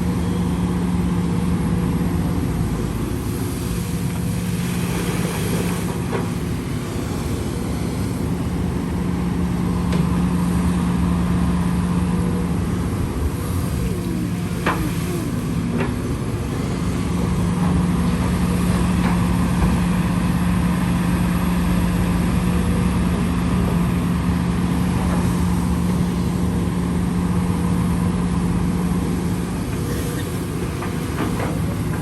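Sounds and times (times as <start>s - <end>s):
heavy machine engine droning: 0.0s - 32.0s.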